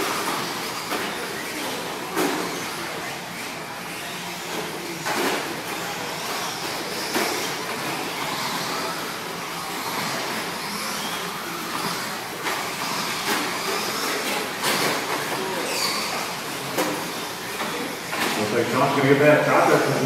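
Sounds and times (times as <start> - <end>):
high electric motor whine: 0.0 - 20.0.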